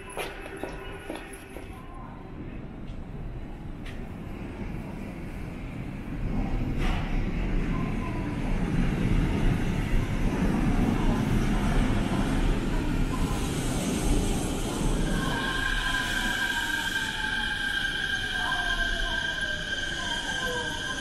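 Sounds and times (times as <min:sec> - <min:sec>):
monorail train rumbling: 0:00.0 - 0:21.0.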